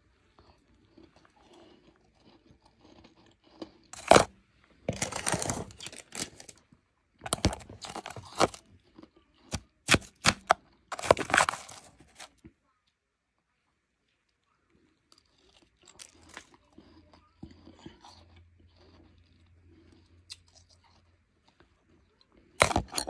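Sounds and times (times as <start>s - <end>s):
ice being chewed: 0.2s - 12.4s, 14.8s - 23.0s.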